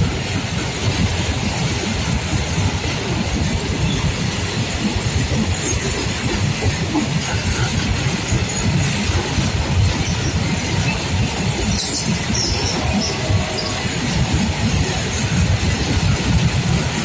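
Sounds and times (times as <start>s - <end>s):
freight train rumbling past: 0.0s - 17.0s
wheels clattering over rails: 0.0s - 17.0s.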